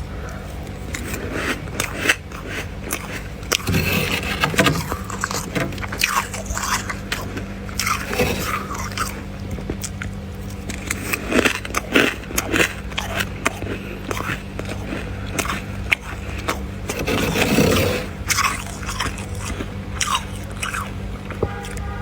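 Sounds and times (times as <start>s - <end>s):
steady low hum: 0.0s - 22.0s
frost being chewed: 0.2s - 21.9s.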